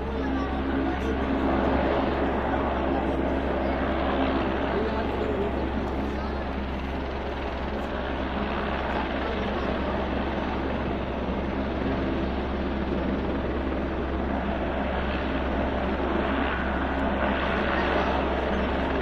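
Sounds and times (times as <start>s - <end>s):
helicopter rotor and turbine: 0.0s - 19.0s.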